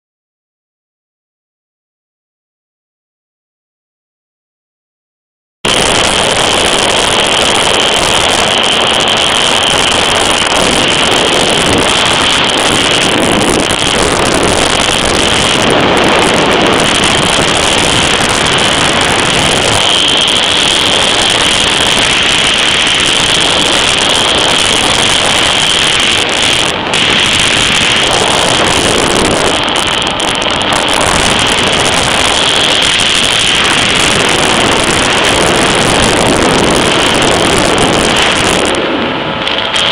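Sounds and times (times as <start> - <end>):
wind buffeting microphone: 5.6 - 39.9
jet ski engine whine: 5.7 - 39.9
water rushing: 5.7 - 39.9.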